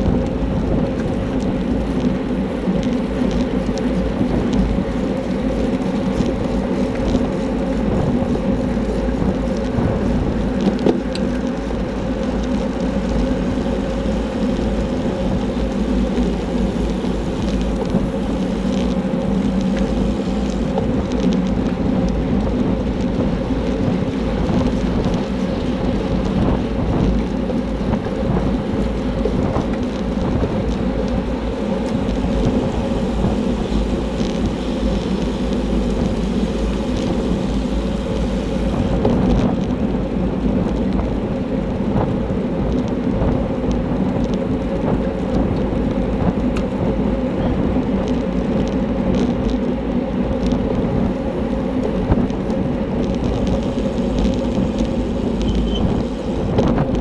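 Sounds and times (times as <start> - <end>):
tyre and road noise: 0.0 - 57.0
wind rushing over microphone: 0.0 - 57.0.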